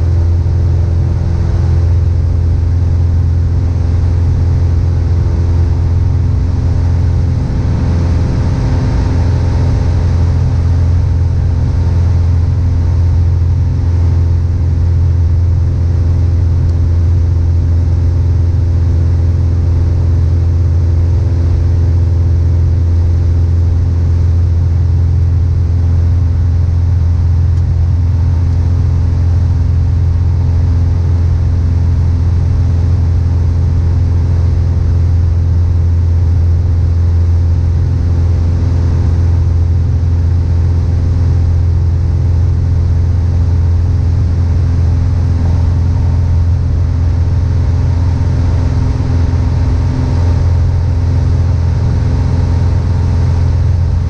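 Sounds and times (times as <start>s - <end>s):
airplane engine droning in cabin: 0.0s - 54.0s.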